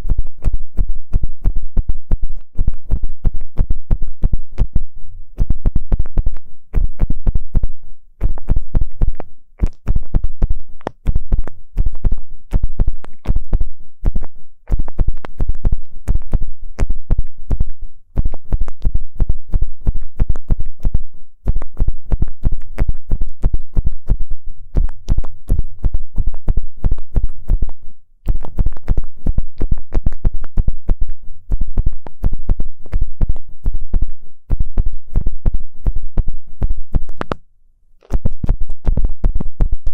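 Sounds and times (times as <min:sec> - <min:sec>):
ear pick scratching microphone: 0:00.0 - 0:37.4, 0:38.0 - 0:39.9.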